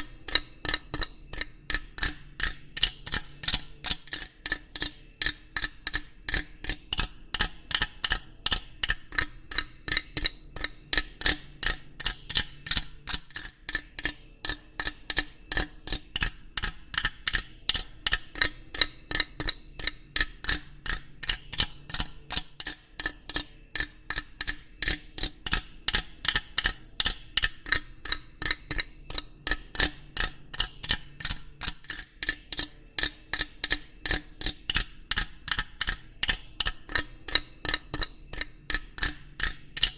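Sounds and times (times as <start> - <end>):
steady ticking: 0.0 - 39.9.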